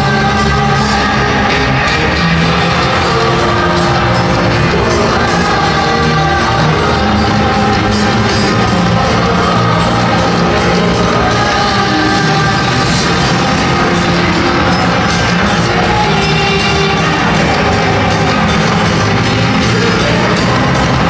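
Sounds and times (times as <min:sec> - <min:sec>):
crowd noise: 0:00.0 - 0:21.0
rock music over loudspeakers: 0:00.0 - 0:21.0.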